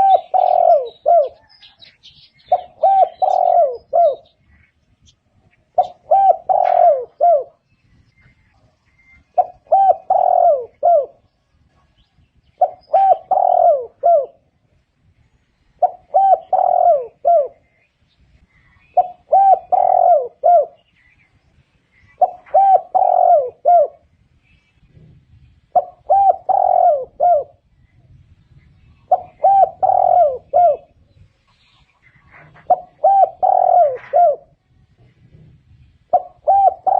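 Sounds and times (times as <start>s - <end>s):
dove cooing: 0.0s - 7.6s, 9.0s - 11.9s, 12.6s - 14.6s, 15.8s - 17.8s, 18.8s - 20.9s, 22.0s - 24.1s, 24.8s - 27.7s, 28.8s - 36.9s.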